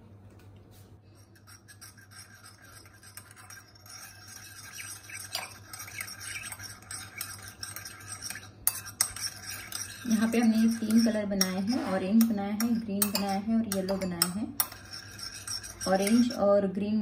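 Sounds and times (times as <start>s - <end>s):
low steady hum: 0.0s - 17.0s
spoon scraping ceramic bowl: 1.1s - 16.6s.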